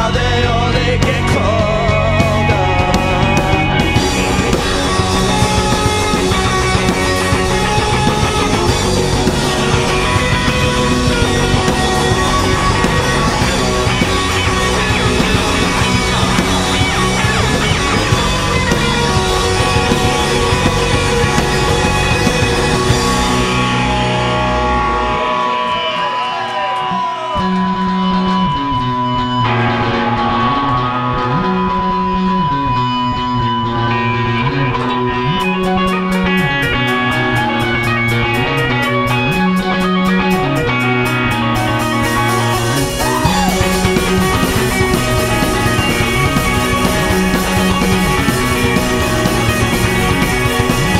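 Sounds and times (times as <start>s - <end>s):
repeating bass line: 0.0s - 26.6s, 27.3s - 50.9s
live rock band playing: 0.0s - 50.9s.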